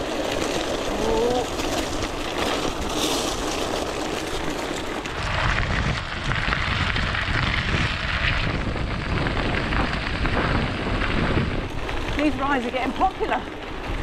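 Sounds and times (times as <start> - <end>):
bike tyres crunching on gravel: 0.0 - 14.0
wind rumble on microphone: 0.0 - 14.0.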